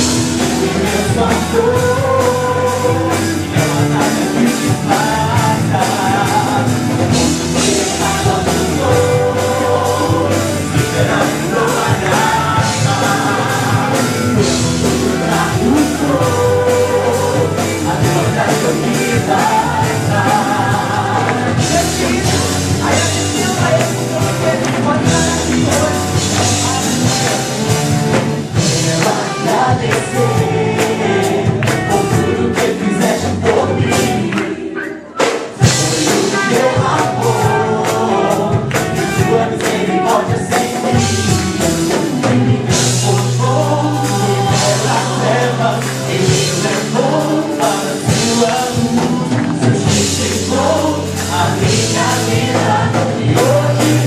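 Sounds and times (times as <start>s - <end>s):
gospel band playing: 0.0s - 54.0s
voices singing together: 0.0s - 54.0s.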